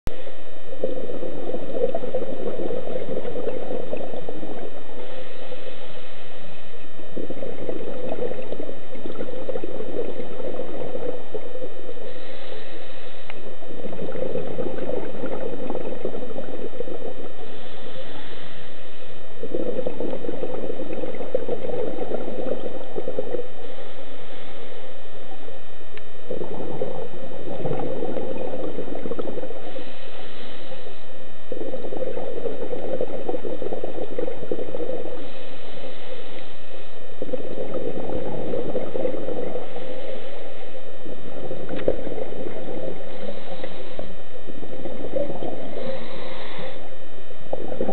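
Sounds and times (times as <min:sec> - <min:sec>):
exhaled bubbles underwater: 0:00.1 - 0:47.9
regulator inhale hiss: 0:00.2 - 0:16.4, 0:17.3 - 0:20.2, 0:21.1 - 0:25.1, 0:27.5 - 0:31.9, 0:34.9 - 0:37.3, 0:38.3 - 0:47.1.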